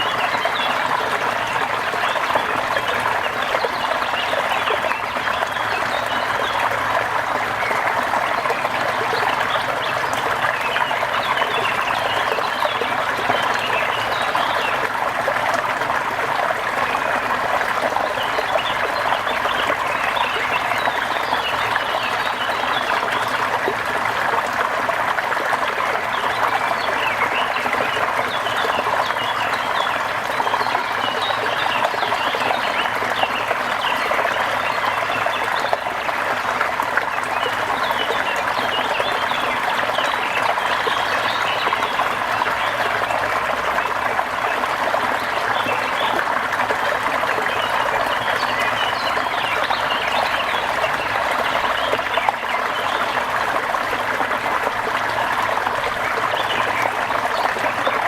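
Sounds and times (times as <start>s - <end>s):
trickling water: 0.0s - 58.0s.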